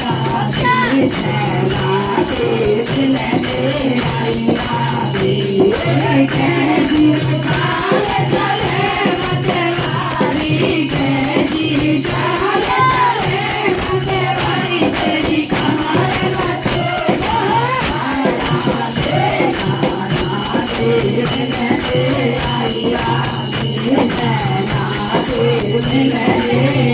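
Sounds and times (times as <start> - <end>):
jingling percussion beat: 0.0 - 26.9.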